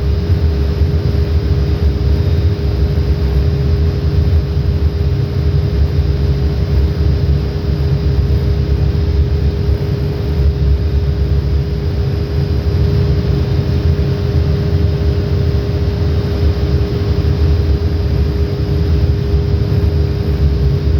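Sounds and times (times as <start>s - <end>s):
refrigeration compressor humming: 0.0s - 20.9s.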